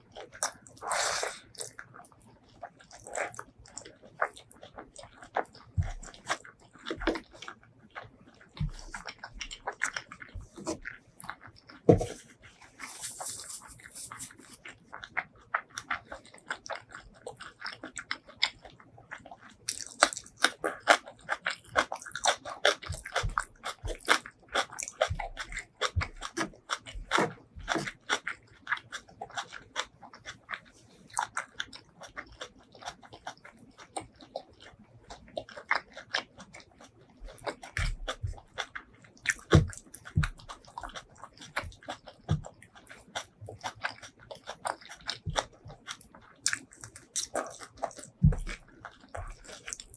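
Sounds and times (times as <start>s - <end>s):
chewing and biting: 0.0s - 49.9s
wet mouth clicks and crunches: 0.1s - 49.9s.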